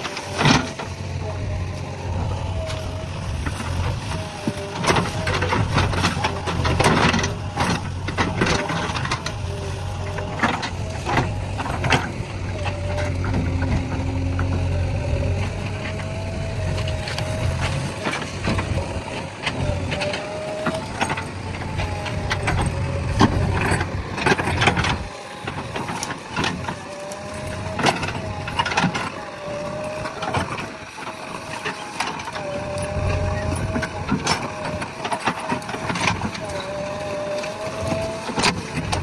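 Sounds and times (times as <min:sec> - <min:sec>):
diesel engine rumble: 0:00.0 - 0:39.0
hydraulic whine: 0:00.0 - 0:39.0.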